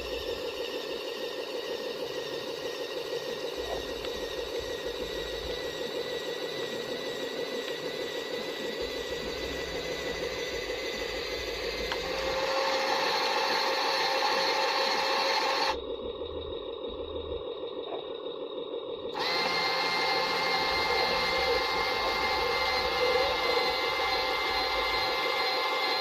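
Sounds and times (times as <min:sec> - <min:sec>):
toy truck electric motor whine: 0:00.0 - 0:26.0.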